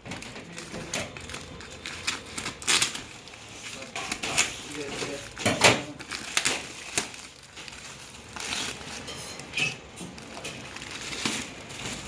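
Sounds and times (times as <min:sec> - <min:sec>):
plastic and paper wrapping crinkling: 0:00.0 - 0:12.0.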